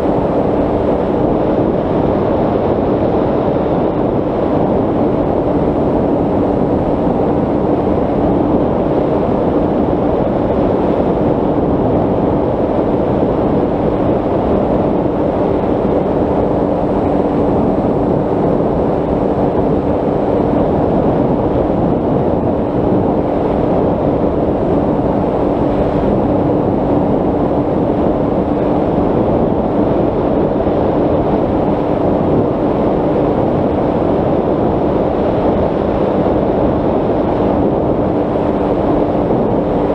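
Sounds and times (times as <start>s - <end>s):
airflow rushing: 0.0s - 39.9s.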